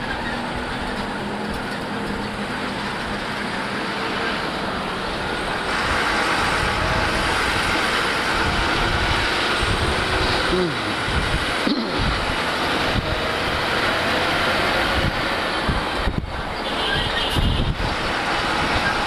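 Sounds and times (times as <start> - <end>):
traffic: 0.0 - 19.0
wind and road noise: 0.0 - 19.0.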